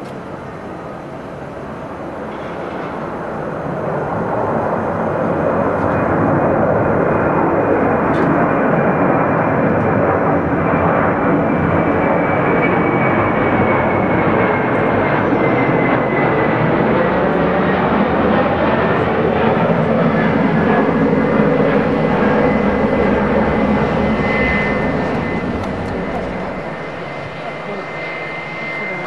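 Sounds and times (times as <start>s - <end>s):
high jet engine whine: 0.0s - 29.0s
jet airliner roar: 0.0s - 29.0s.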